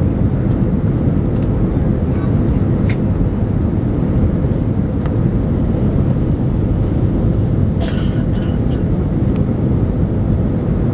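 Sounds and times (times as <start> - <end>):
airplane engine rumble in cabin: 0.0 - 10.9.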